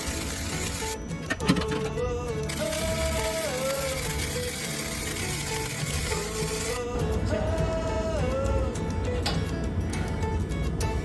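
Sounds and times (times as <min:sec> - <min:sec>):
background music with bending melody: 0:00.0 - 0:11.0.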